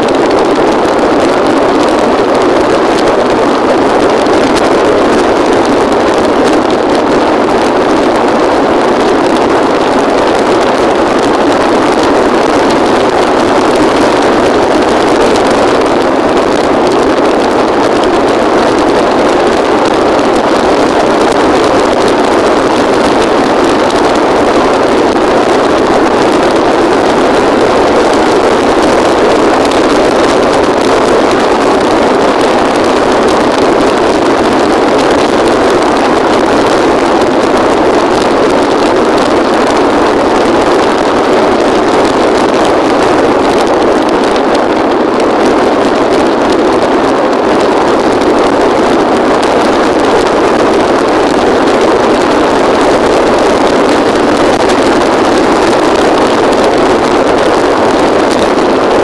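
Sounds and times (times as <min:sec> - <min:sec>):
motorbike engine and wind noise: 0:00.0 - 0:59.0.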